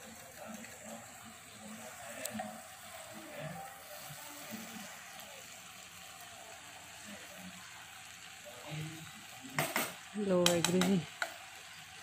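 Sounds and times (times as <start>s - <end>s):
faint simmering sizzle: 0.0s - 12.0s.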